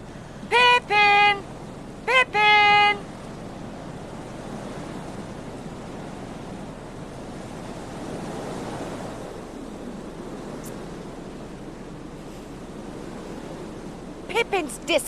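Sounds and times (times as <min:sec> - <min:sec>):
wind blowing across microphone: 0:02.9 - 0:15.0.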